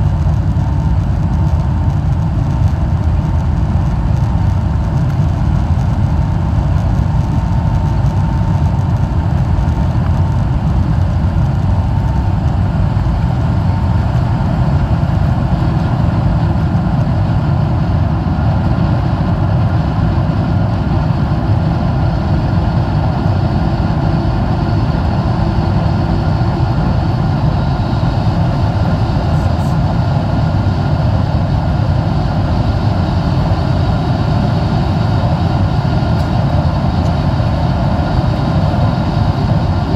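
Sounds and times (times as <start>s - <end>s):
jet engines deep rumble: 0.0s - 39.9s.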